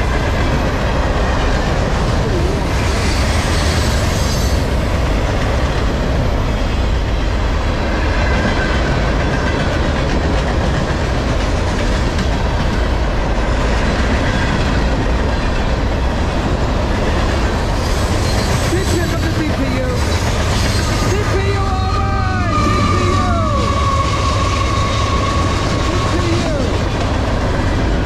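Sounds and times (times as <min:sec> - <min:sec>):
freight train rumbling and rattling: 0:00.0 - 0:28.0.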